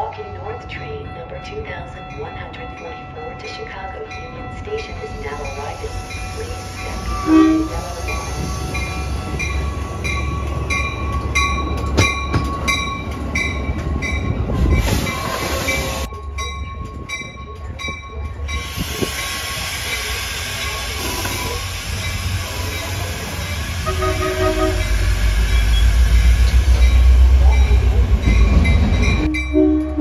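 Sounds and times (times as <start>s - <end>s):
diesel train rumbling past: 0.0s - 30.0s.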